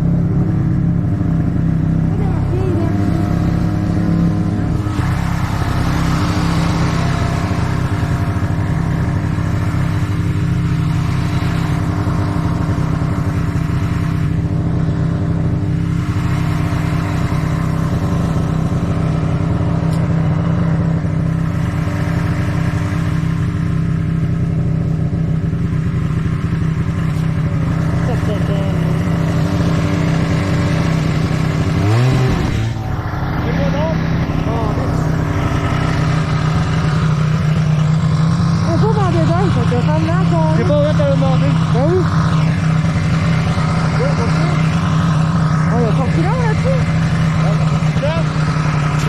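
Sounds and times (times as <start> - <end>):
snowmobile engine droning: 0.0 - 49.0.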